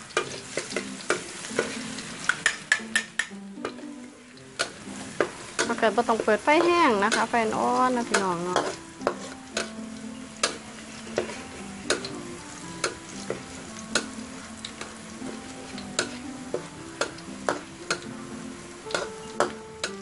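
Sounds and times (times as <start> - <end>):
garlic sizzling in oil: 0.0 - 20.0
metal ladle scraping and knocking wok: 0.1 - 18.2, 18.8 - 20.0.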